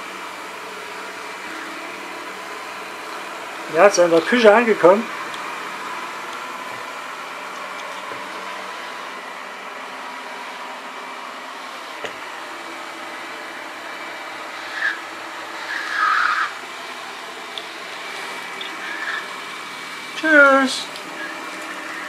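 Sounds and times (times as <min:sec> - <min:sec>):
robot vacuum whirring: 0:00.0 - 0:10.9, 0:11.6 - 0:22.0.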